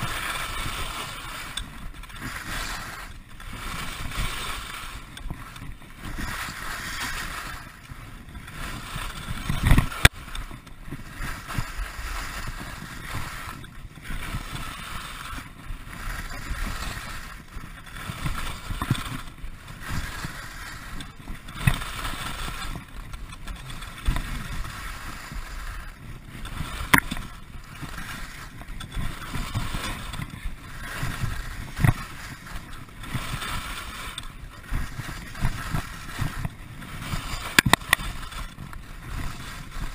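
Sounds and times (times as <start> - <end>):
skis knocking on frozen bumps: 0.0 - 39.9
skis scraping over frozen snow: 0.0 - 39.9.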